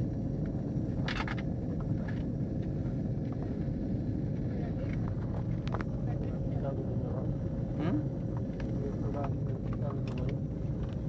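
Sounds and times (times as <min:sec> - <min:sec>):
airliner cabin rumble: 0:00.0 - 0:11.0
faint steady hum: 0:00.0 - 0:11.0.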